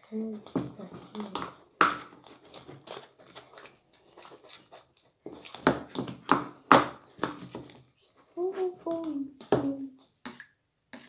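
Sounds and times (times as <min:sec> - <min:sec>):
slime squelching: 0:00.0 - 0:11.0.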